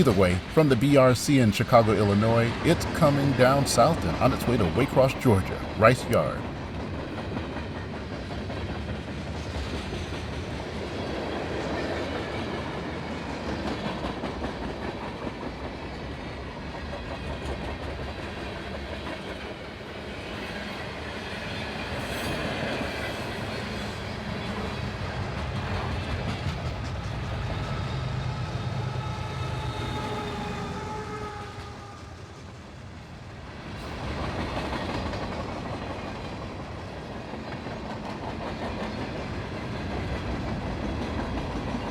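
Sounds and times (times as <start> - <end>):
freight train rolling past: 0.0 - 41.9.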